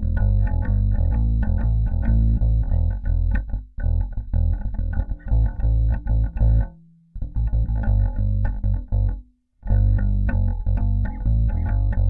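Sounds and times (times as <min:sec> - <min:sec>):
electric bass plucked notes: 0:00.0 - 0:12.0.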